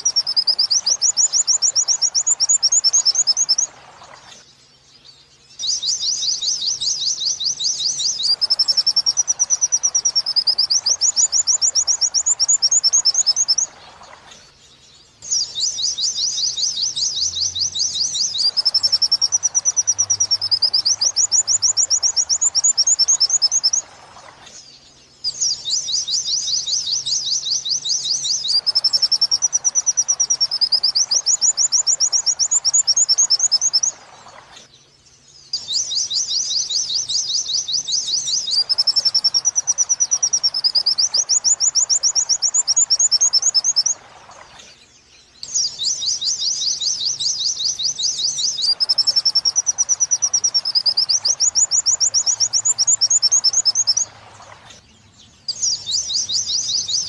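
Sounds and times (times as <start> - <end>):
white-eye bird song trills: 0.0 - 57.0.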